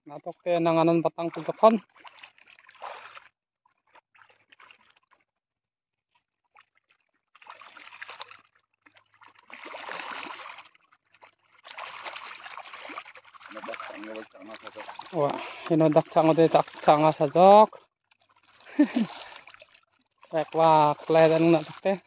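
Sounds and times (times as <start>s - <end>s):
water sloshing and splashing: 0.0s - 22.0s.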